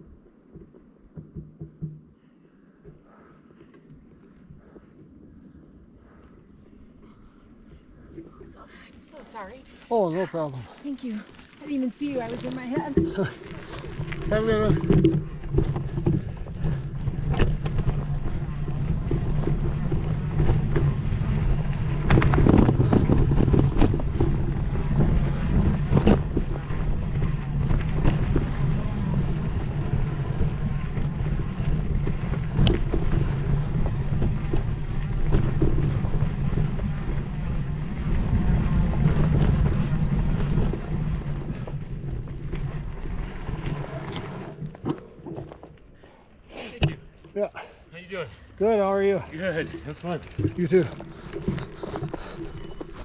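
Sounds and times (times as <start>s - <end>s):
low rumble of movement: 0.0s - 47.2s, 48.2s - 53.0s
bike clattering over bumps: 0.1s - 2.3s, 11.0s - 47.3s, 48.6s - 53.0s
bike rolling over dirt trail: 3.0s - 46.4s, 48.5s - 53.0s.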